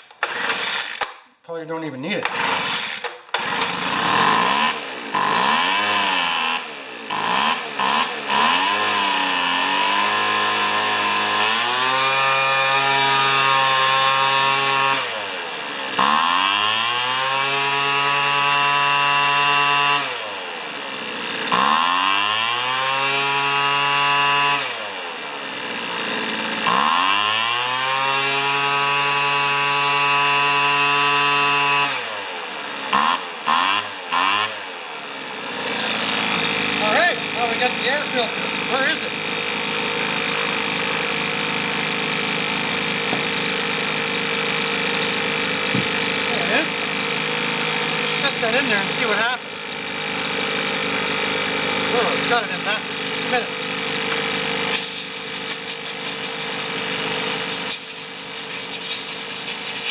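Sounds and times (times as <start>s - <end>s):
leaf blower engine revving: 0.0s - 1.3s, 2.0s - 59.9s.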